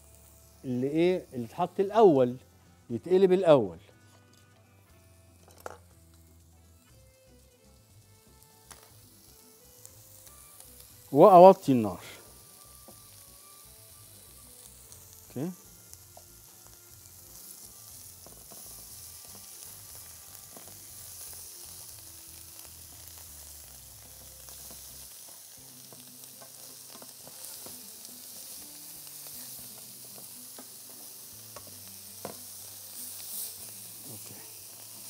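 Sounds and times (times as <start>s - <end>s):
meat sizzling in a frying pan: 0.0s - 3.5s, 4.6s - 35.0s.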